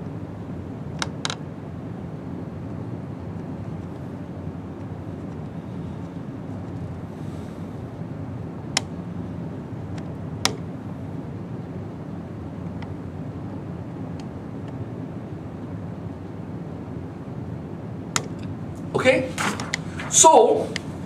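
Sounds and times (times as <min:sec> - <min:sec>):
low room noise: 0:00.0 - 0:21.0.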